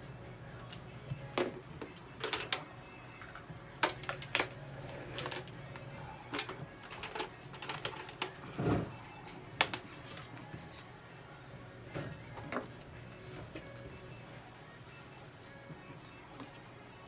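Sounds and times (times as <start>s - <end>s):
low hum of equipment: 0.0s - 17.0s.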